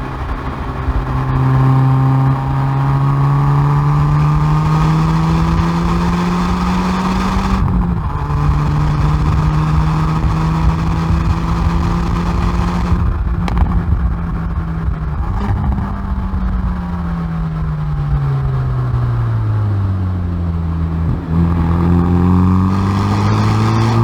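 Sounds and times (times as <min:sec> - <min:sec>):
car exhaust hard acceleration: 0:00.0 - 0:24.0
exhaust crack: 0:00.0 - 0:24.0.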